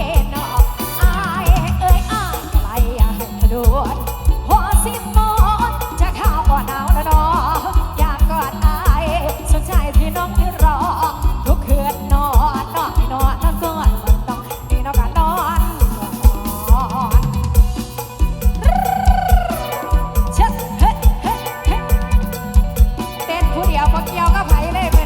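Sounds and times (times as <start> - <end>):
heavy bass: 0.0 - 25.0
steady drum beat: 0.0 - 25.0.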